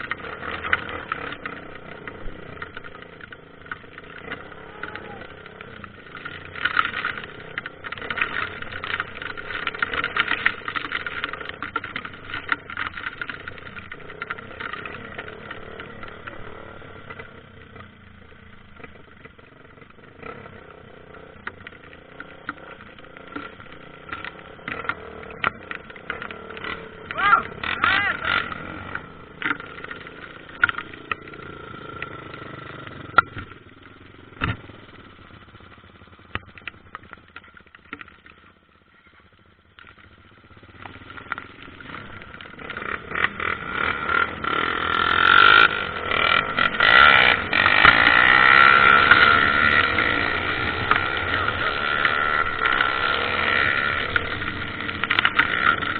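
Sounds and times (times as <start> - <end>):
sharp clicks and knocks: 0.0 - 4.6, 5.2 - 16.4, 18.7 - 38.6, 40.7 - 55.9
motorcycle engine running: 0.0 - 55.9.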